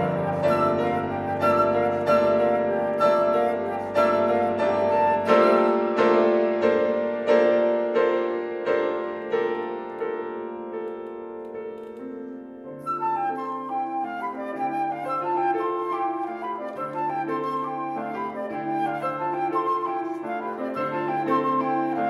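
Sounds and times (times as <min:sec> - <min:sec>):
piano chords ringing: 0:00.0 - 0:22.0.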